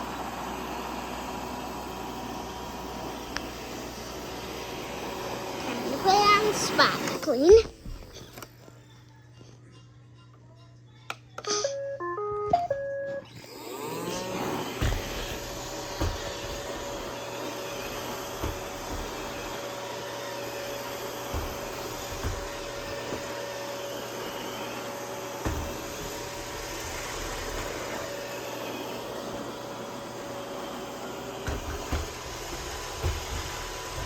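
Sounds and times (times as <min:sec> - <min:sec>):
robot vacuum running: 0:00.0 - 0:08.4, 0:13.1 - 0:34.0.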